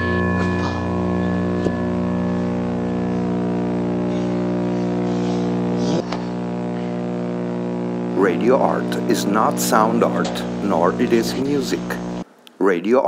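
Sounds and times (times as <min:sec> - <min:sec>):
low drone of stacked tones: 0:00.0 - 0:12.2.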